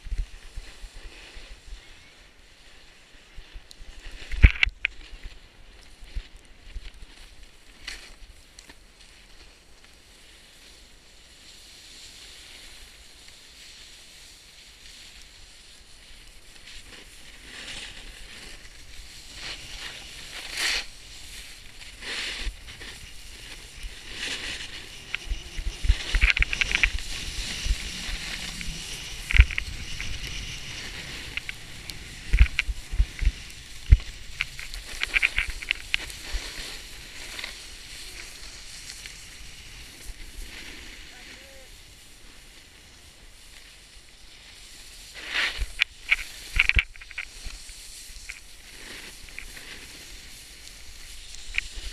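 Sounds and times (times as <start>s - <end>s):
snowboard hissing on snow: 0.0s - 51.9s.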